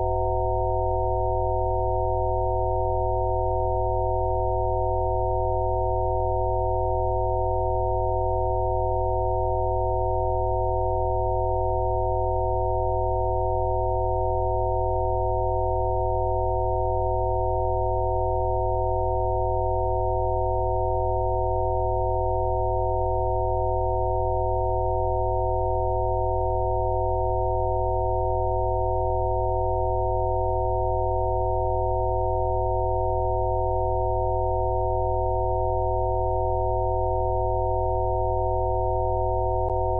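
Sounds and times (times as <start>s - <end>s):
chord of pure sine tones: 0.0s - 39.9s.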